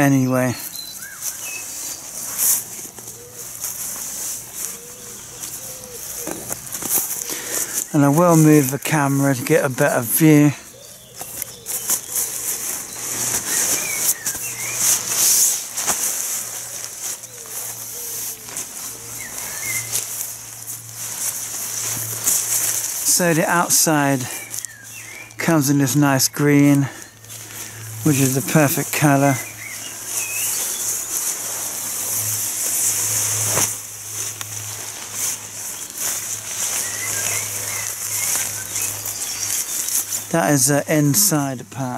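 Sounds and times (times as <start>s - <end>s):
nylon tent fabric rustling: 0.0s - 41.9s.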